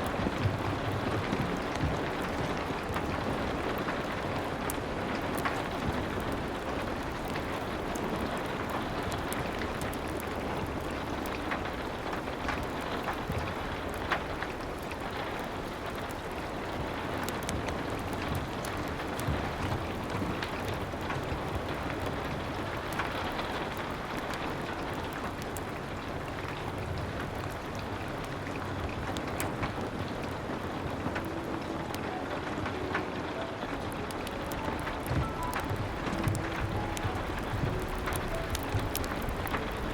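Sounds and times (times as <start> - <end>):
rain on a window and roof: 0.0 - 39.9
wood fire crackling: 0.0 - 39.9.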